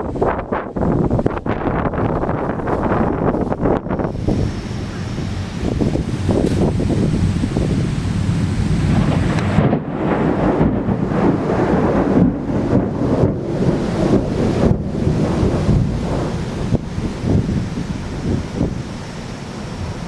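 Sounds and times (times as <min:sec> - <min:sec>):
torrential rain: 0:00.0 - 0:20.0
wind buffeting microphone: 0:00.0 - 0:20.0.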